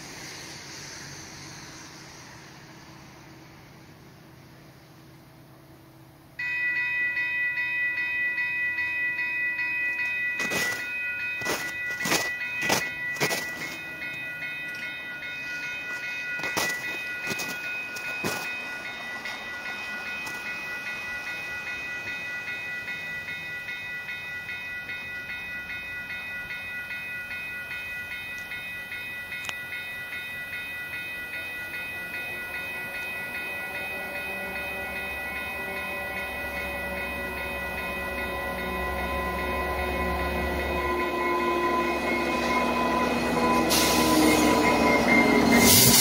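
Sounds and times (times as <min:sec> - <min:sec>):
diesel locomotive engine rumble: 0:00.0 - 0:46.0
level crossing bell ringing: 0:06.4 - 0:46.0.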